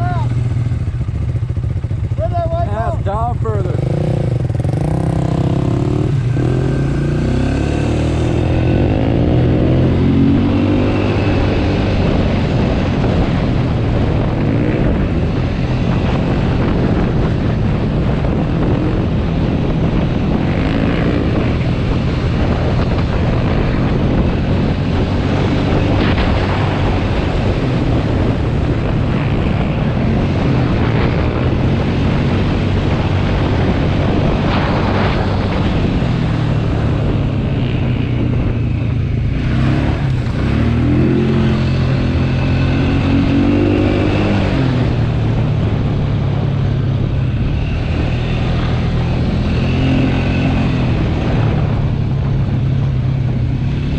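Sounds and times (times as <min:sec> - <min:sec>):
atv engine droning: 0:00.0 - 0:53.9
rough rushing ride noise: 0:00.0 - 0:53.9.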